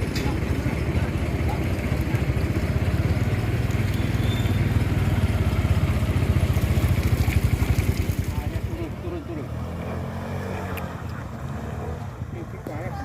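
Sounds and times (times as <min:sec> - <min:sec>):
truck engine running hard: 0:00.0 - 0:12.8.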